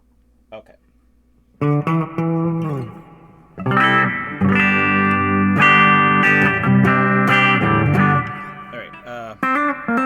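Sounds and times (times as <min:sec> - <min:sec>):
electric guitar strumming chords: 0:01.6 - 0:10.0.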